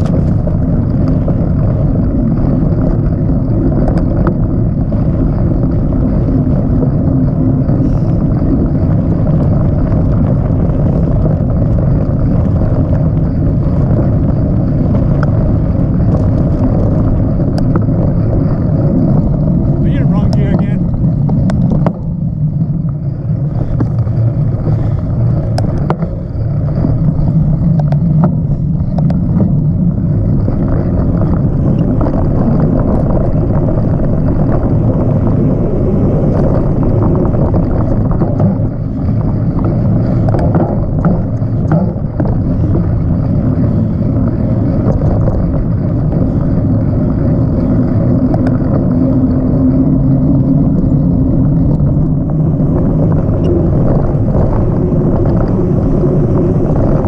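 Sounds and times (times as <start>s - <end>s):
bike clicks and rattles: 0.0s - 57.0s
tyres rolling over dirt: 0.0s - 57.0s
wind on microphone: 0.0s - 57.0s.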